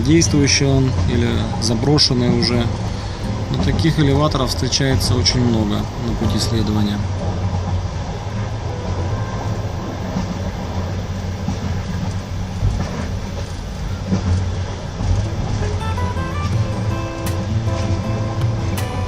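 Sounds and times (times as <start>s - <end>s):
clack at rail joints: 0.0s - 19.0s
train wheels rumbling on track: 0.0s - 19.0s.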